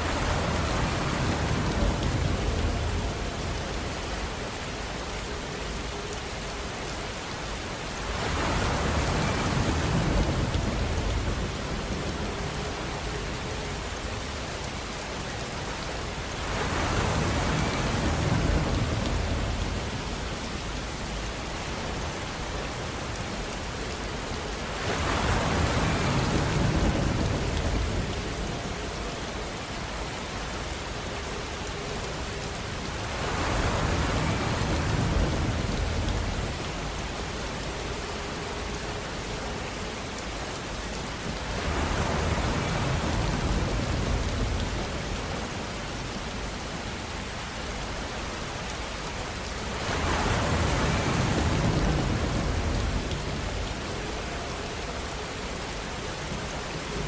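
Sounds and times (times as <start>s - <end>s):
rushing outdoor noise: 0.0s - 57.0s.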